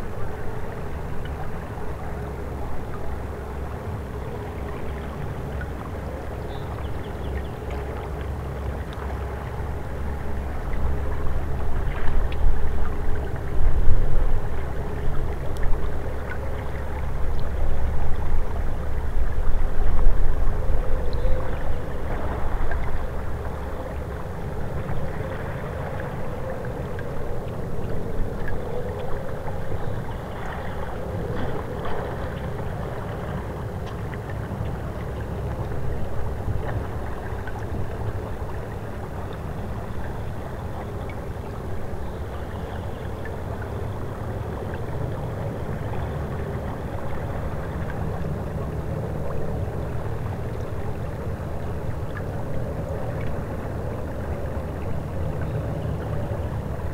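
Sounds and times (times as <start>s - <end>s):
river water rushing and gurgling: 0.0s - 56.9s.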